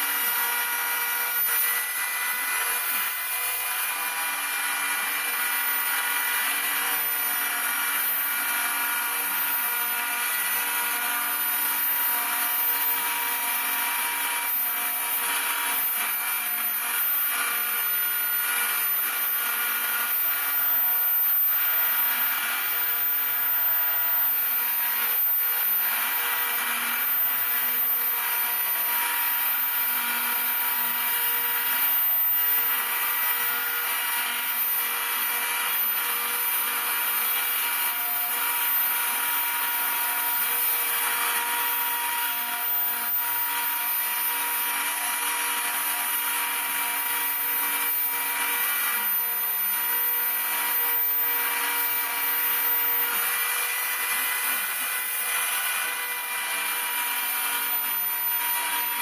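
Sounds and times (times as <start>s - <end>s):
router spindle whine: 0.0s - 59.0s.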